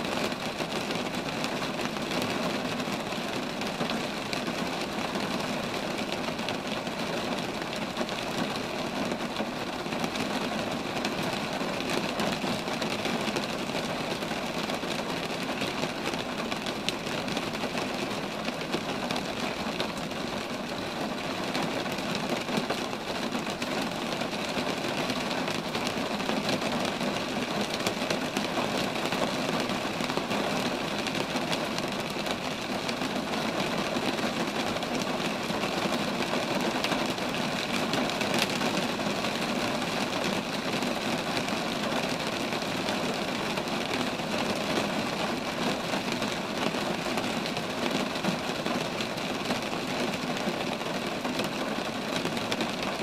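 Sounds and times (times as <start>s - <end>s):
rain falling on trees: 0.0s - 53.0s.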